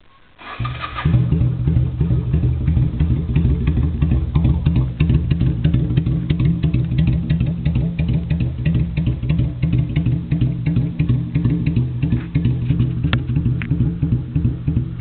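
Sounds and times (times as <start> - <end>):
motorcycle engine idling: 0.4 - 15.0.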